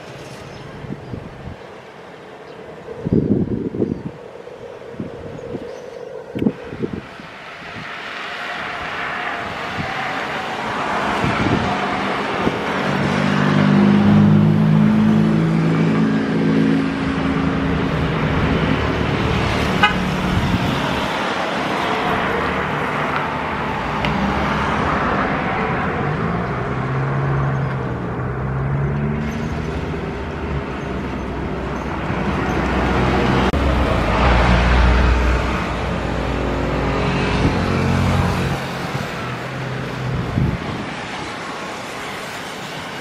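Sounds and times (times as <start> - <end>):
jet engines roaring at takeoff: 0.0 - 43.0
road traffic: 0.0 - 43.0.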